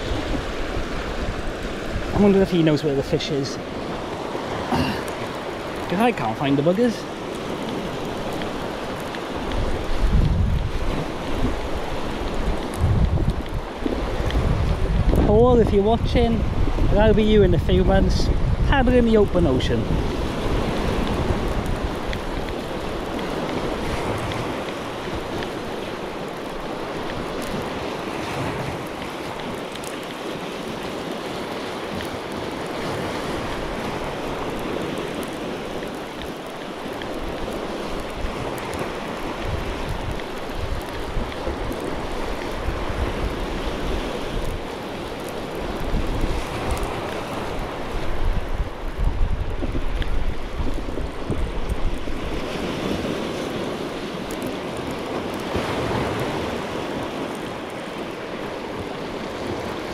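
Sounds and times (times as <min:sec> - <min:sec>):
waves washing over rocky shore: 0:00.0 - 0:59.9
wind buffeting microphone: 0:00.0 - 0:59.9.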